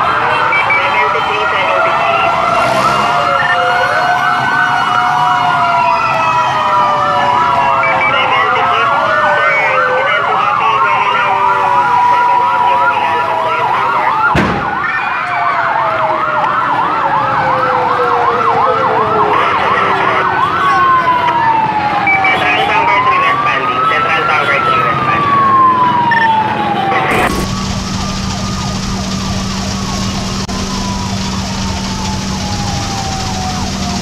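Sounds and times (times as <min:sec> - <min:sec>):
fire engine sirens wailing: 0:00.0 - 0:34.0.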